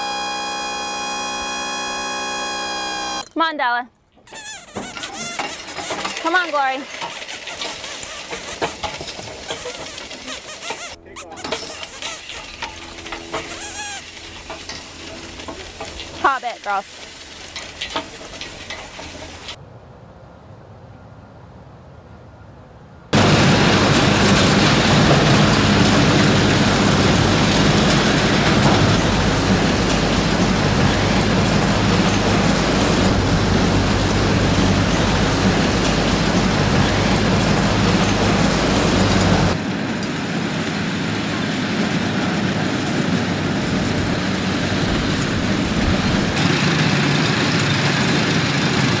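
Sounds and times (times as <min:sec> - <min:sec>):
corn picker machine droning: 0:00.0 - 0:03.3, 0:04.2 - 0:19.6, 0:23.2 - 0:49.0.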